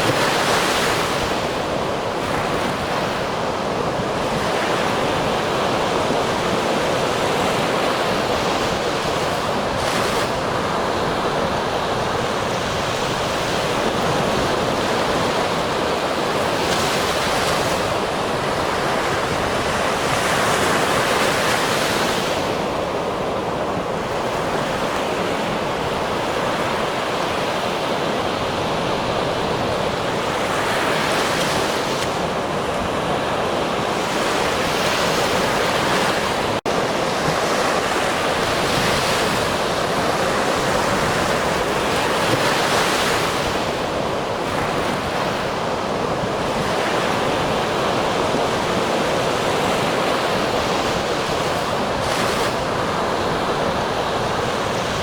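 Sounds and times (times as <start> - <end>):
ocean waves washing: 0.0 - 55.0.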